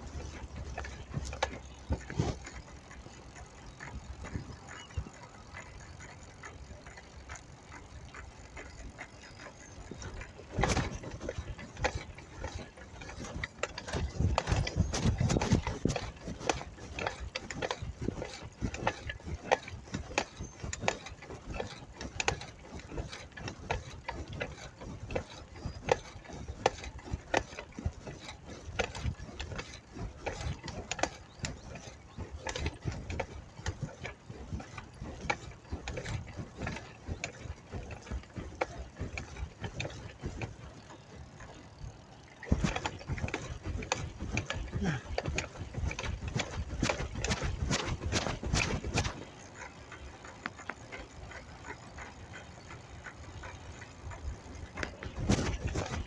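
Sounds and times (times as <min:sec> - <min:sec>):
bicycle clicking and rattling: 0:00.0 - 0:56.0.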